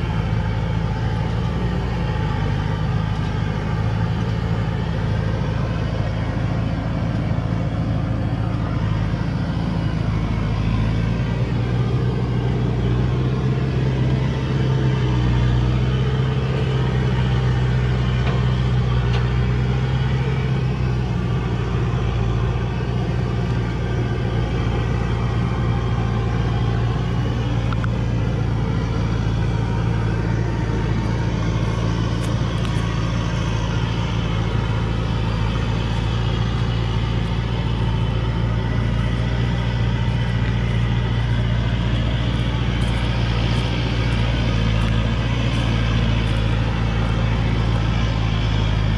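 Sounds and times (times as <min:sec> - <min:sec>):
truck diesel engine labouring: 0:00.0 - 0:48.9.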